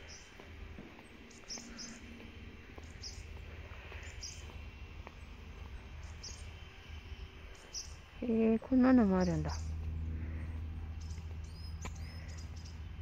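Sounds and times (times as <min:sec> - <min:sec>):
low rumble: 0:00.0 - 0:13.0
small birds chirping: 0:00.0 - 0:13.0.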